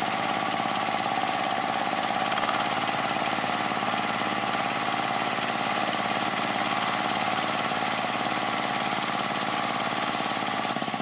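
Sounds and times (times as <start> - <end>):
cutter churning wet mud: 0.0 - 11.0.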